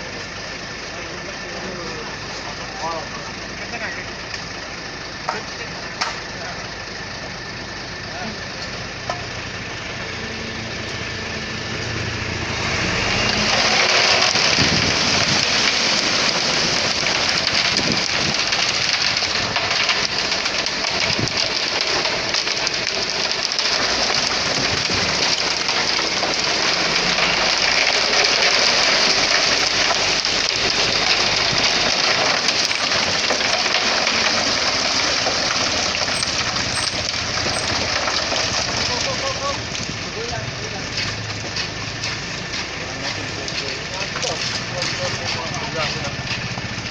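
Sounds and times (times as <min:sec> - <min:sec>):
truck engine running: 0:00.0 - 0:46.9
wet concrete pouring: 0:08.1 - 0:46.9.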